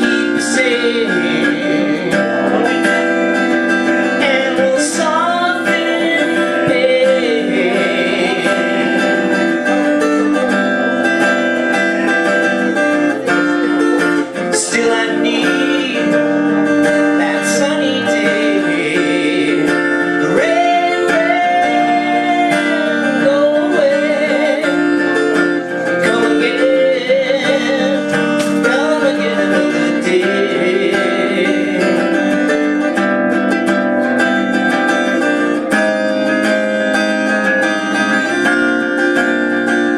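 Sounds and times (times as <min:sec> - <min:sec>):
man singing: 0:00.0 - 0:33.5
acoustic guitar: 0:00.0 - 0:39.9.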